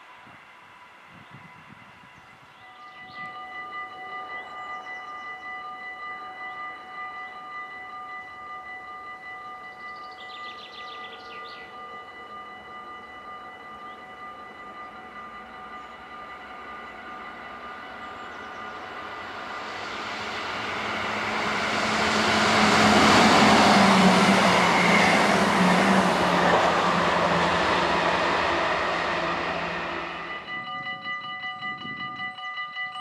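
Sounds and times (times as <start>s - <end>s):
steady high ringing tone: 0.0s - 33.0s
train wheels rumbling on rails: 6.1s - 33.0s.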